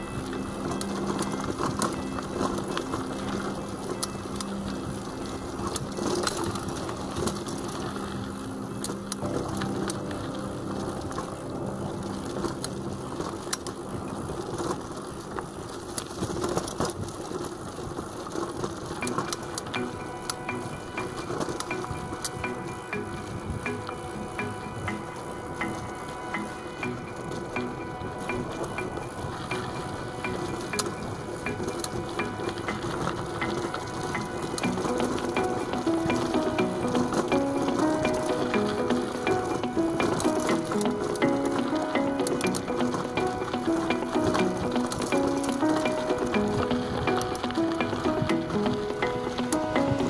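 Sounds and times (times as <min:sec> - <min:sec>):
bicycle freewheel ticking: 0:00.0 - 0:50.0
bike chain and frame rattling: 0:00.0 - 0:50.0
bike tyres on gravel: 0:00.0 - 0:50.0.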